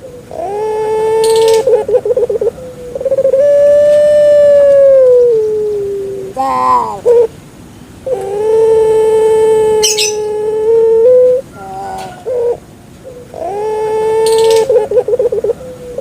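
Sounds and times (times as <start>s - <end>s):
dove cooing: 0.0s - 7.4s, 8.0s - 16.0s.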